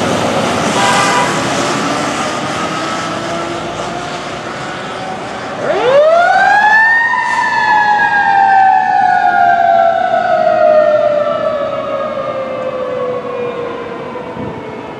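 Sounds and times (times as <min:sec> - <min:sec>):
fire engine siren wailing: 0:00.0 - 0:14.9.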